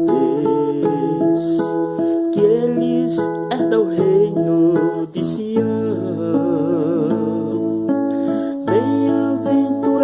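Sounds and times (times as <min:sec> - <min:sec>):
acoustic guitar music: 0:00.0 - 0:10.0
person singing long notes: 0:00.0 - 0:10.0.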